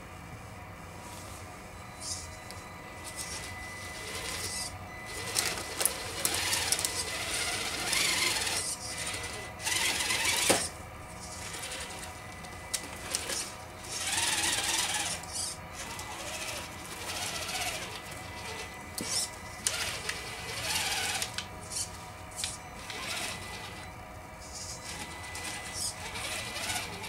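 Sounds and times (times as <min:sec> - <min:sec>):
electric motor whining: 0:01.8 - 0:27.0.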